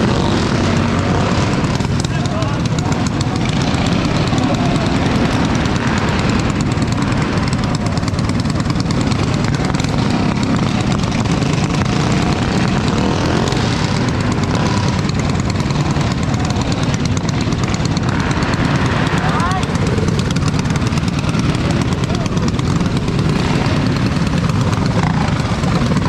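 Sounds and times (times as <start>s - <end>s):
mini bike engines droning: 0.0s - 26.0s.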